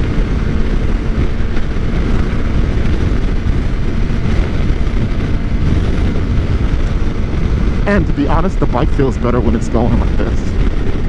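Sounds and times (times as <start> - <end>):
motorcycle engine cruising: 0.0 - 11.0
wind rushing on microphone: 0.0 - 11.0.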